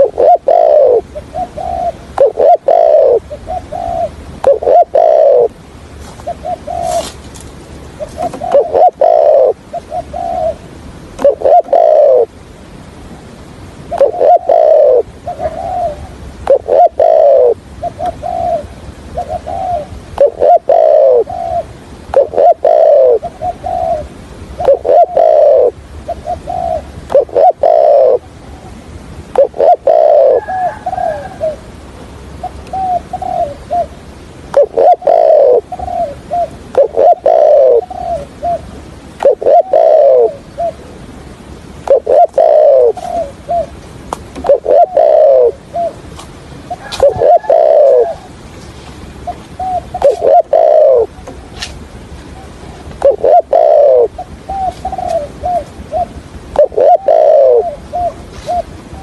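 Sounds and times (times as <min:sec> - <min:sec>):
dove cooing: 0:00.0 - 0:07.3, 0:08.0 - 0:12.4, 0:13.9 - 0:41.1, 0:41.8 - 0:43.8, 0:44.4 - 0:51.6, 0:52.2 - 0:59.0.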